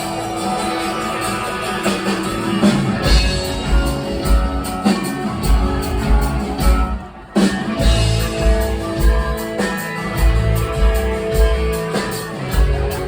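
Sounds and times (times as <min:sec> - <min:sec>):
drums and bass heavy beat: 0:00.0 - 0:13.0
electric guitar: 0:00.0 - 0:13.0
rock band playing: 0:00.0 - 0:13.0.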